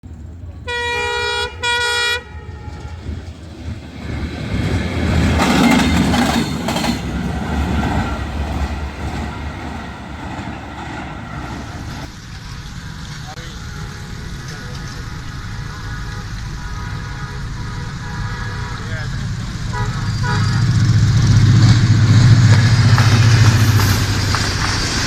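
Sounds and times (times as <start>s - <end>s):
train passing rumble: 0.0s - 25.0s
locomotive horn blasts: 0.6s - 12.1s, 13.5s - 24.0s.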